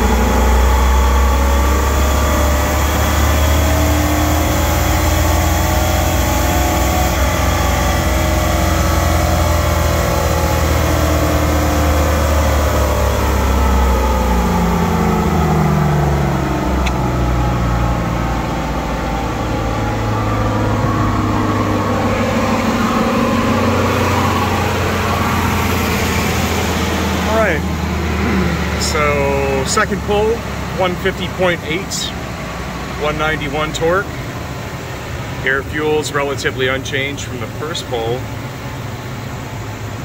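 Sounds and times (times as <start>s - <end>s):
engine running on dyno: 0.0s - 40.0s.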